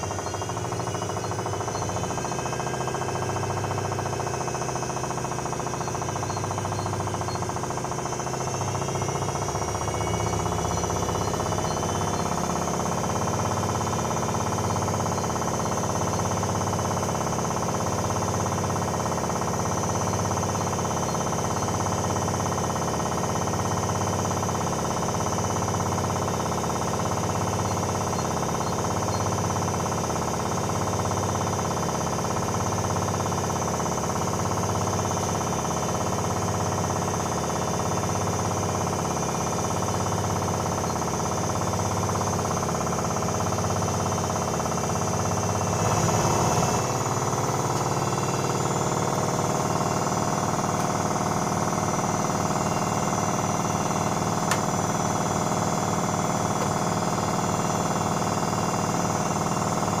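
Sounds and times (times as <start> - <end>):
washing machine motor hum: 0.0 - 60.0.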